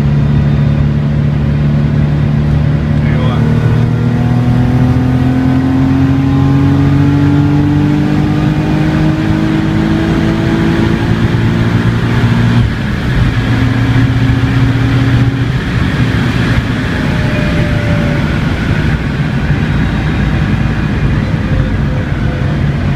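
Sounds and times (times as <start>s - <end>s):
car engine pulling: 0.0s - 22.9s.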